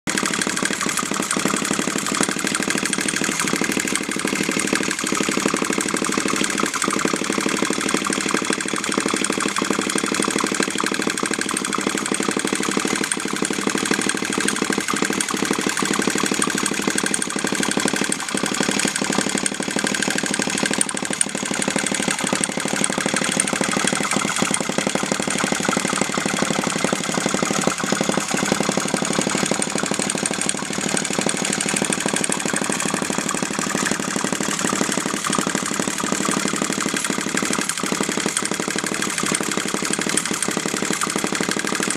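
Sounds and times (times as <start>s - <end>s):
model engine clattering: 0.0s - 41.9s.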